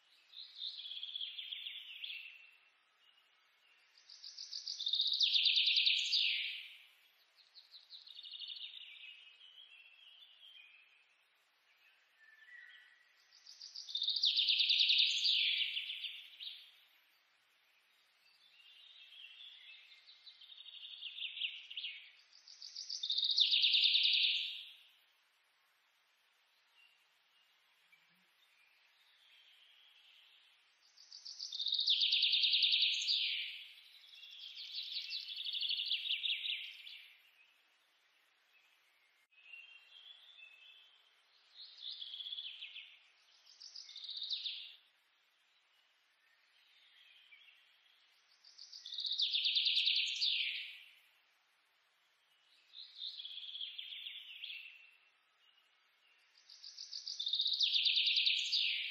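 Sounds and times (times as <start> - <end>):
bird singing trilled song: 0.0 - 25.1, 26.6 - 37.6, 38.5 - 51.2, 52.1 - 58.9.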